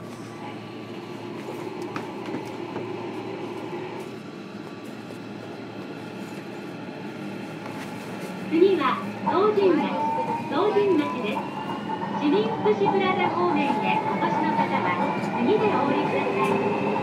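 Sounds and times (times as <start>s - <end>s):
train wheel and rail rumble: 0.0s - 17.0s.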